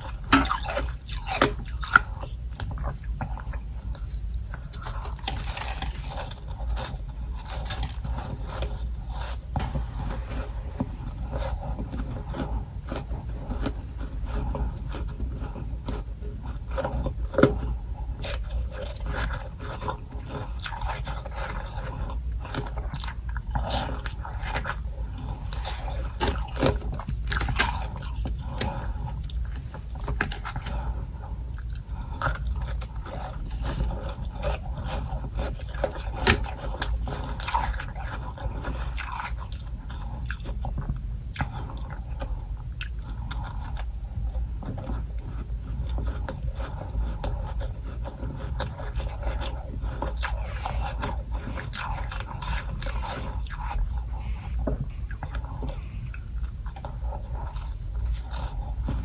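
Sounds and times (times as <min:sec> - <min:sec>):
chewing crunchy frost: 0:00.0 - 0:59.0
steady low hum: 0:00.0 - 0:59.0.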